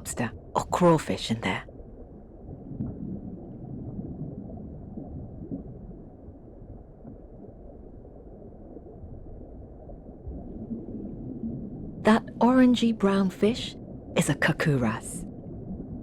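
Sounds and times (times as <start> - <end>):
muffled rumble of moving water: 0.0 - 16.0.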